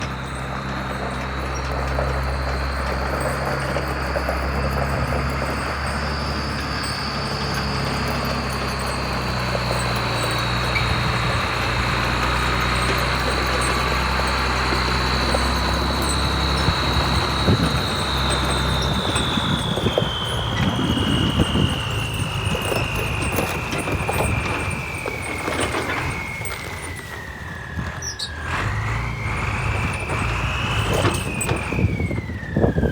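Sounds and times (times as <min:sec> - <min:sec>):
forklift engine running: 0:00.0 - 0:32.9.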